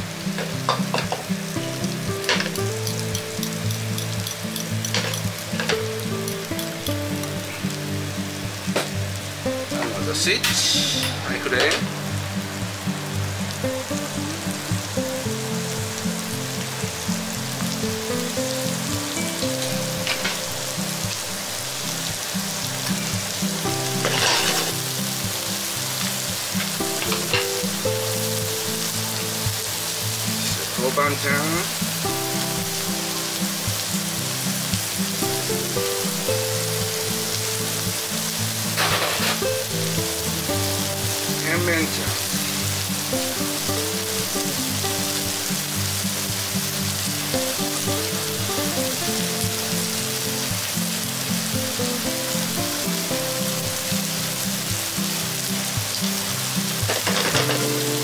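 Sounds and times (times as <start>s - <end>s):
background music: 0.0s - 58.0s
vegetables sizzling in hot oil: 0.0s - 58.0s.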